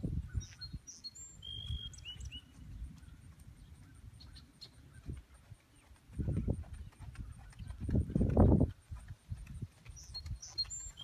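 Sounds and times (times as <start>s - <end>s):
horse hooves trotting on grass: 0.0s - 11.0s
bird chirps: 0.2s - 8.5s, 9.8s - 11.0s.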